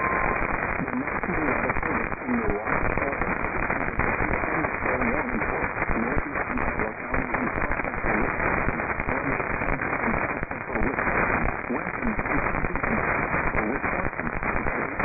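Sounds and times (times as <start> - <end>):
faint voice: 0.0 - 15.0
radio static hiss with crackles: 0.0 - 15.0.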